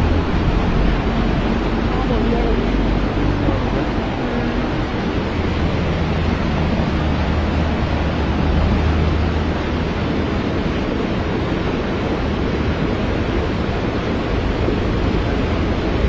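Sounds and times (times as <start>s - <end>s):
floodwater rushing down street: 0.0s - 16.0s.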